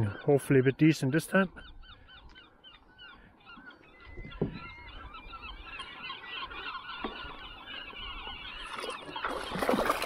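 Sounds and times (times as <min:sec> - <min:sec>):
flock of birds calling: 0:00.0 - 0:10.0.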